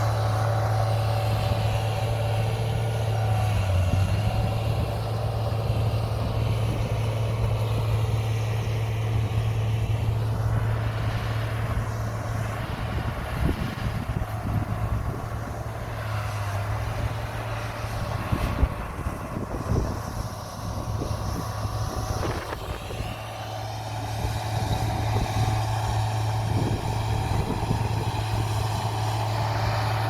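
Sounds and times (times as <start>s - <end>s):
diesel machinery engine drone: 0.0s - 30.0s.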